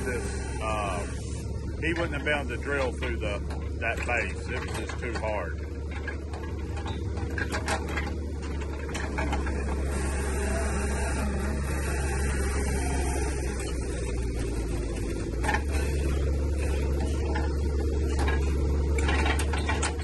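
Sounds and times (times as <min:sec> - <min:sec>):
auger drill rig droning: 0:00.0 - 0:20.0.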